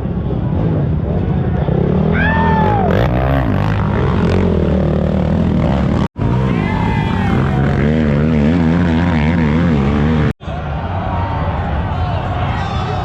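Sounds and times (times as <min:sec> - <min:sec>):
atv engines running hard: 0:00.0 - 0:12.6.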